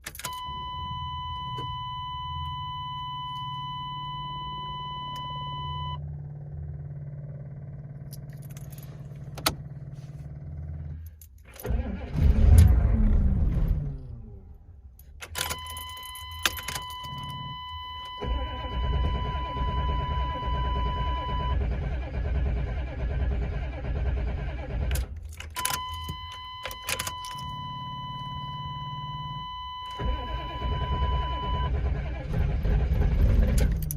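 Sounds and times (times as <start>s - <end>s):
diesel engine cranking and starting: 5.9s - 33.9s.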